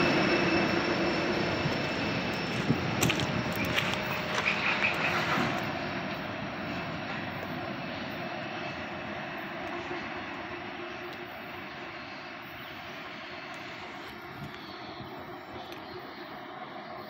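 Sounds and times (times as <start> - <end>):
diesel locomotive engine drone: 0.0 - 17.0
rolling train: 0.0 - 17.0.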